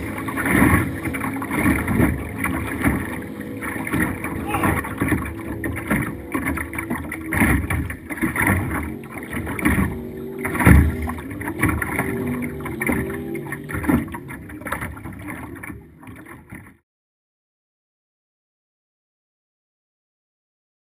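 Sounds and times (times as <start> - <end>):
boat engine running hard: 0.0 - 16.8
hull slapping over waves: 0.0 - 16.8.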